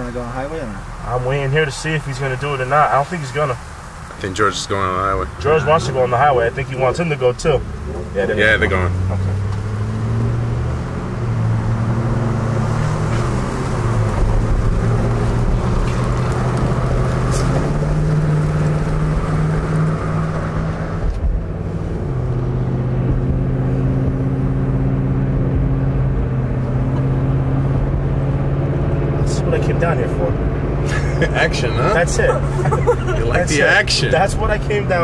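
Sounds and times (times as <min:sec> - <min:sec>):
road noise: 0:00.0 - 0:35.0
truck engine accelerating: 0:00.0 - 0:35.0.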